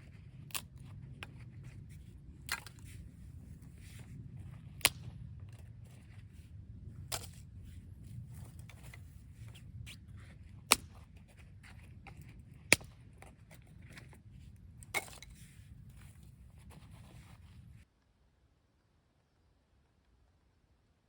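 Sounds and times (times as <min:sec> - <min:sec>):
low steady rumble: 0:00.0 - 0:17.8.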